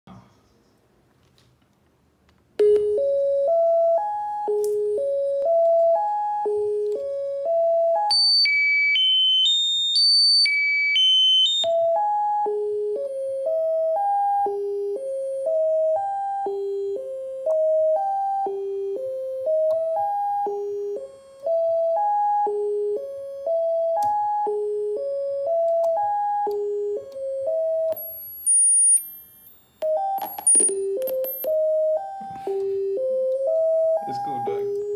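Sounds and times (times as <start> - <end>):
electronic beep arpeggio: 2.6 - 34.9.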